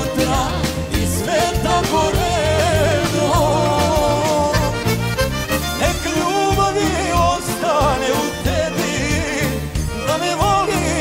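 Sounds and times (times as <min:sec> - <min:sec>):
man singing into a microphone: 0:00.0 - 0:05.0, 0:05.8 - 0:11.0
band with steady bass beat: 0:00.0 - 0:11.0.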